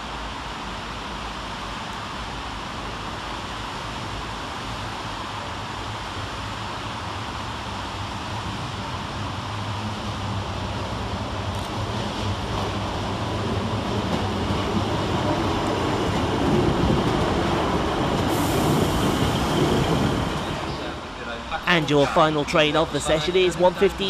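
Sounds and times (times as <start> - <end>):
train diesel engine hum: 0.0 - 24.0.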